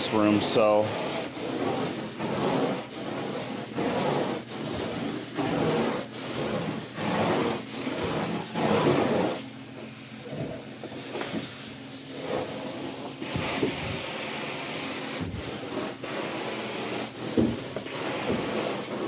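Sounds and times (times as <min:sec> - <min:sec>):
carpet cleaning wand vacuum rush: 0:00.0 - 0:19.0.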